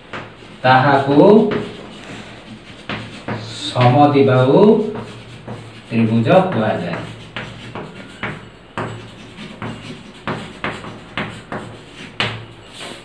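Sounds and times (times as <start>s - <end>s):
chalk tapping on blackboard: 0.0s - 13.0s.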